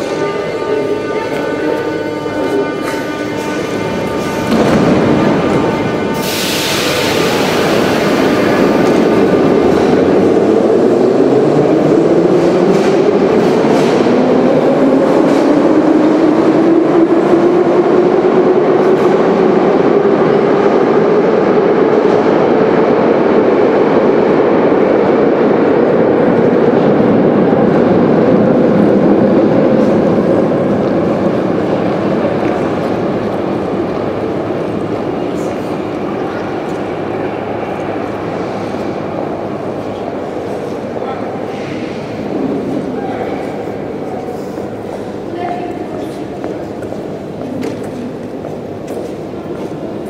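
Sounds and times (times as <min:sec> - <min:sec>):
train wheels rumbling and clattering: 0:00.0 - 0:50.0.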